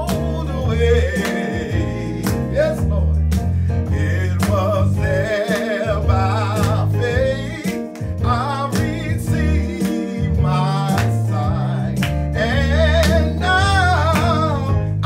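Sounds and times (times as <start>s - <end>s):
man singing with vibrato: 0.0s - 3.3s, 3.9s - 15.0s
stage piano chords: 0.0s - 15.0s.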